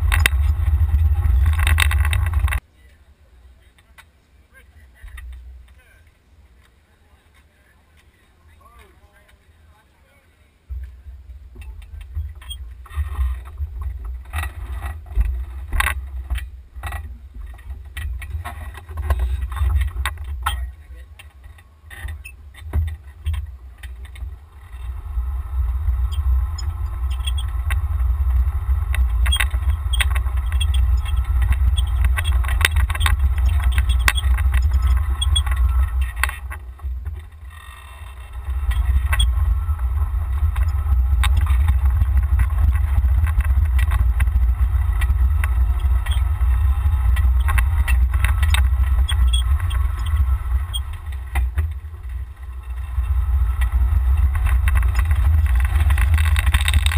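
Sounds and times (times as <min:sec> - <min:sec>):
cart knocking and rattling: 0:00.0 - 0:02.6, 0:11.6 - 0:56.9
golf cart driving slowly: 0:00.0 - 0:56.9.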